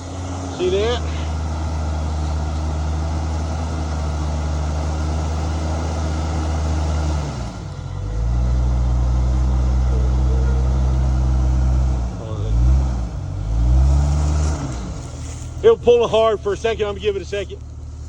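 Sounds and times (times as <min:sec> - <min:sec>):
vehicle motor droning: 0:00.0 - 0:18.0.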